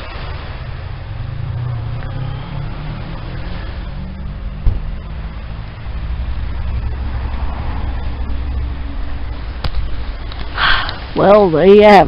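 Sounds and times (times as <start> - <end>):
car engine rumble: 0.0 - 11.8.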